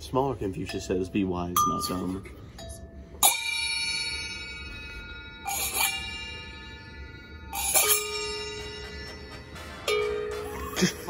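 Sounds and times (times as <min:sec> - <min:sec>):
small hand cymbals struck: 0:01.6 - 0:11.0.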